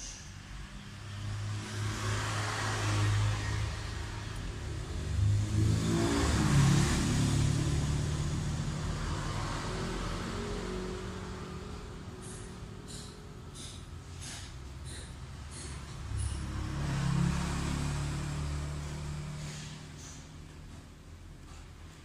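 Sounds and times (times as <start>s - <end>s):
vehicle engine passing by: 0.0s - 22.0s.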